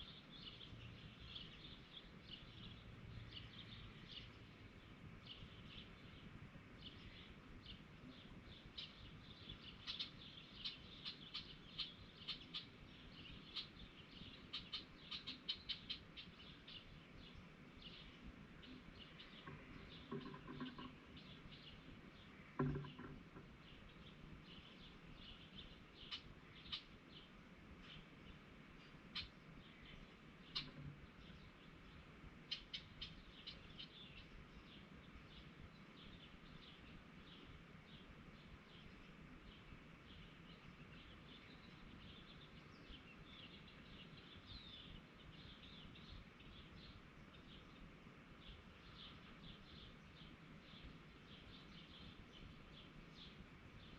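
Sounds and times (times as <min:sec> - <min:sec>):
songbirds high chirping: 0:00.0 - 0:53.9.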